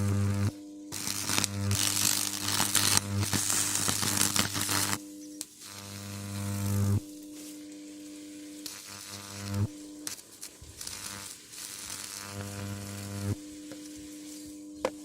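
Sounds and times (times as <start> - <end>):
high-voltage arc buzzing: 0.0 - 15.0.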